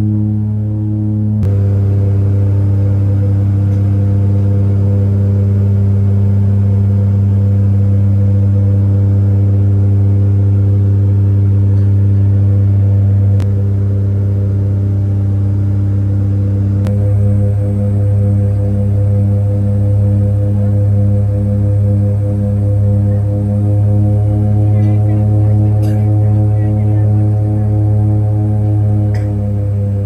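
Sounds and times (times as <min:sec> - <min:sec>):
airliner engines droning in cabin: 0:00.0 - 0:30.0.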